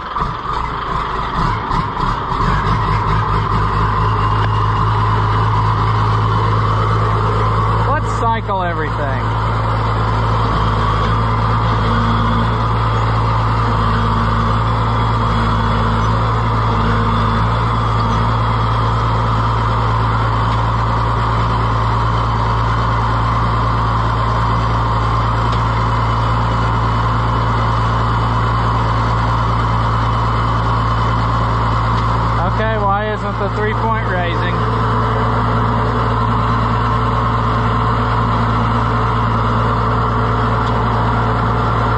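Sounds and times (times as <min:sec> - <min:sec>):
diesel tractor engine running: 0:00.0 - 0:41.9.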